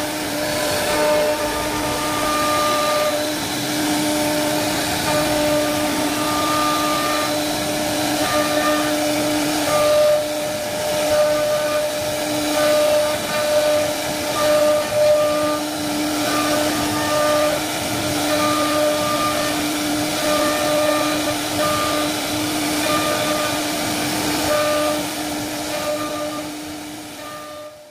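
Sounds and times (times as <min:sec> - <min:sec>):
cutting hiss: 0:00.0 - 0:27.9
router spindle whine: 0:00.0 - 0:27.9.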